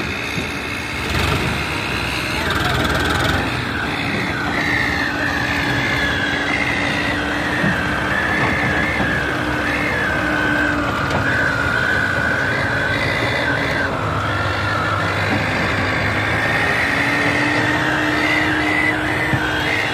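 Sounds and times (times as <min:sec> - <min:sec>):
high wavering whine: 0:00.0 - 0:19.9
tractor engines running under load: 0:00.0 - 0:19.9.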